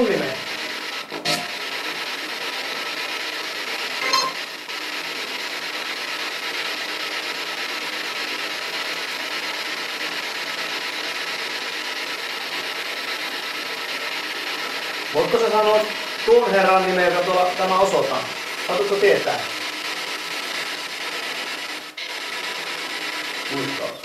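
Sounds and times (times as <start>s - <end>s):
static crackle: 0.0s - 24.0s
static hiss: 0.0s - 24.0s.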